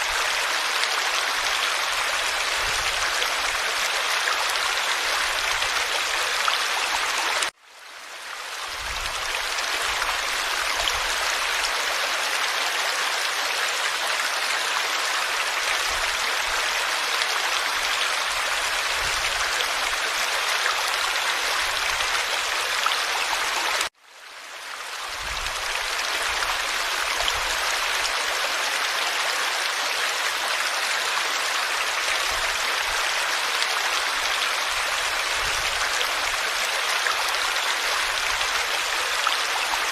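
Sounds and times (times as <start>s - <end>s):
stream babbling over stones: 0.0s - 7.6s, 8.2s - 23.9s, 24.7s - 39.9s.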